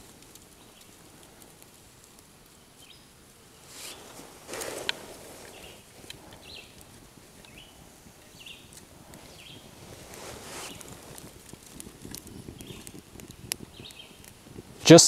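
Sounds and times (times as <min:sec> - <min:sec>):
dry twigs and grass rustling: 0:00.0 - 0:15.0
faint ticks of burning kindling: 0:00.0 - 0:15.0
sharp fire crackle: 0:00.0 - 0:15.0.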